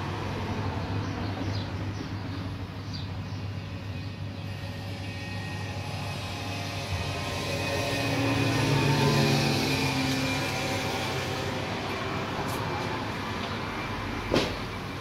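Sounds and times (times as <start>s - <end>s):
vending machine humming: 2.2s - 15.0s.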